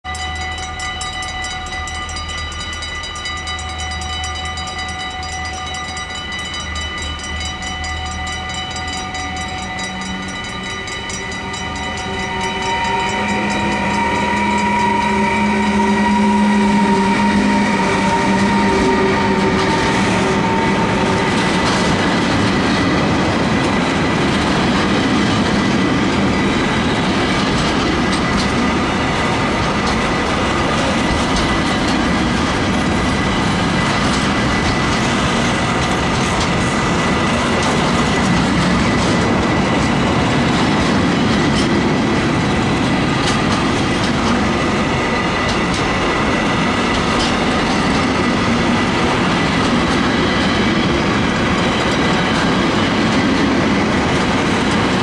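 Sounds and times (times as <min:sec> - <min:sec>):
level crossing warning bell: 0:00.0 - 0:55.0
electric locomotive drone: 0:00.1 - 0:55.0
freight wagons clattering over rails: 0:00.9 - 0:55.0.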